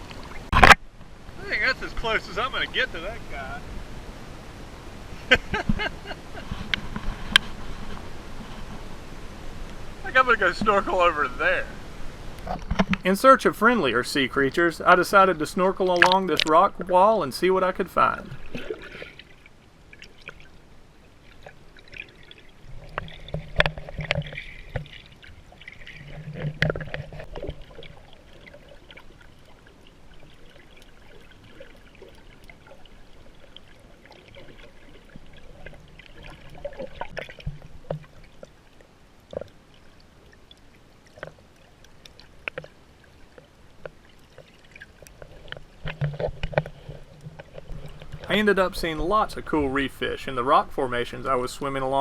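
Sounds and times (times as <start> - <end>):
splashing: 0.0 - 52.0
water sloshing and trickling: 0.0 - 52.0.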